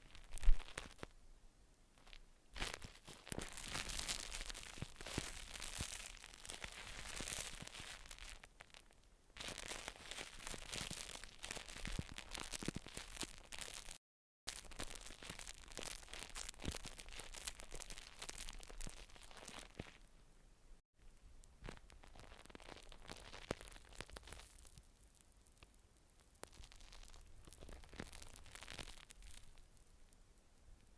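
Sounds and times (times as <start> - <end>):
crackly scratching and crinkling: 0.0 - 1.2, 1.9 - 20.3, 21.0 - 30.9.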